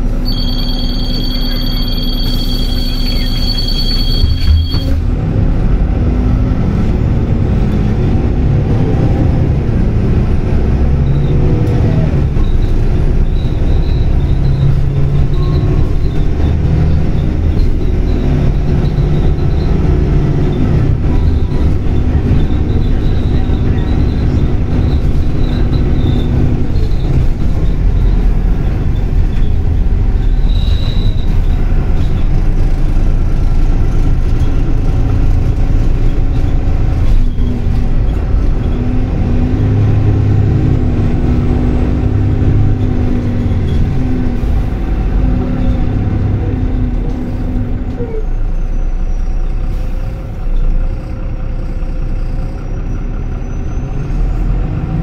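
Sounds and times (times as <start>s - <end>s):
bus engine and drivetrain: 0.0s - 55.0s
road rumble: 0.0s - 55.0s.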